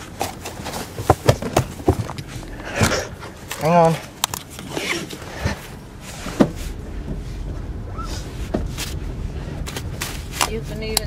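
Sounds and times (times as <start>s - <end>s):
car rumble inside cabin: 0.0s - 11.0s.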